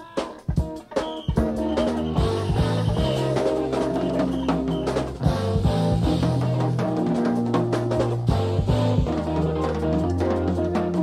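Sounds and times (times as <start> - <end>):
drum kit: 0.0 - 11.0
jazz-fusion band playing: 0.0 - 11.0
electric bass notes: 1.4 - 11.0.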